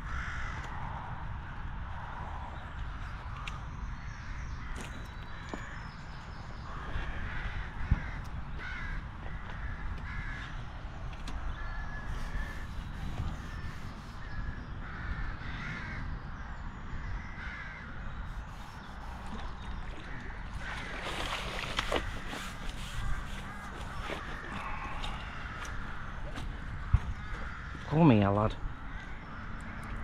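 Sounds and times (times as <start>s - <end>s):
wind rumble on microphone: 0.0s - 30.0s
birds calling: 2.6s - 30.0s.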